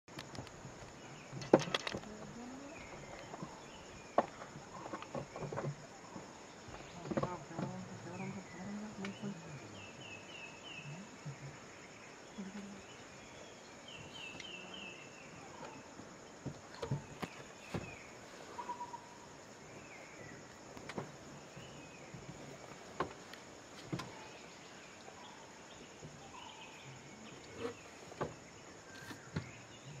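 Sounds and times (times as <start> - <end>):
high insect drone: 0.1 - 30.0
bird calls: 0.4 - 30.0.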